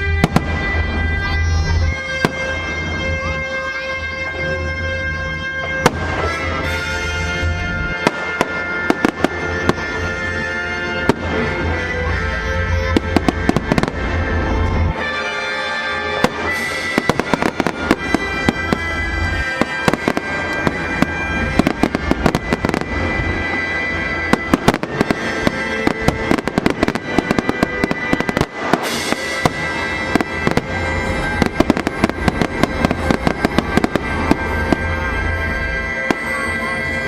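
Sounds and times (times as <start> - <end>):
fireworks bangs and crackles: 0.0 - 37.0
music playing: 0.0 - 37.0.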